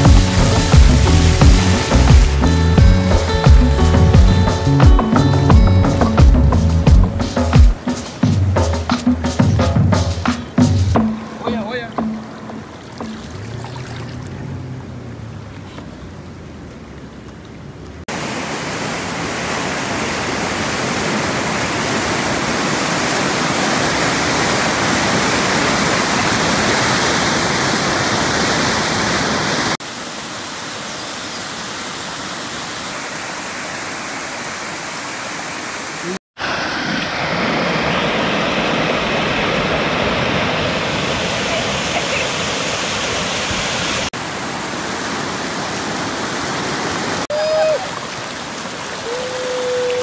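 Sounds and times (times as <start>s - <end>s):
river rapids rushing: 0.0s - 6.2s, 11.0s - 16.6s, 18.1s - 50.0s.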